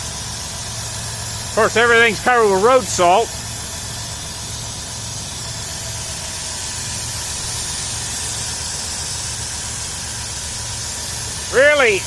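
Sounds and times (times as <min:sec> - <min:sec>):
car engine idling: 0:00.0 - 0:12.0
steady hiss: 0:00.0 - 0:12.0.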